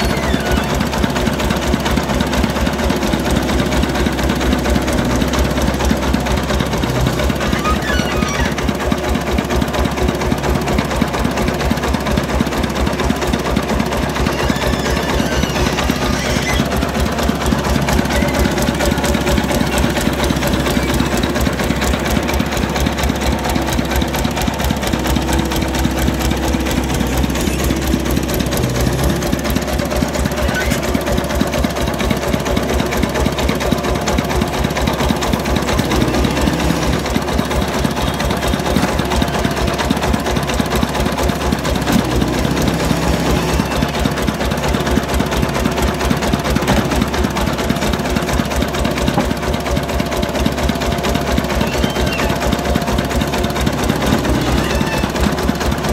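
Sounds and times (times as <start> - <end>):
diesel engine chugging: 0.0 - 55.9.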